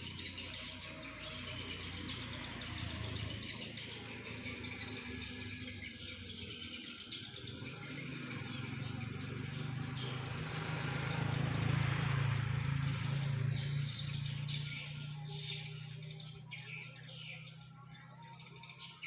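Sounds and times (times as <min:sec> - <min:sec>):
vehicle engine passing: 0:00.0 - 0:16.8.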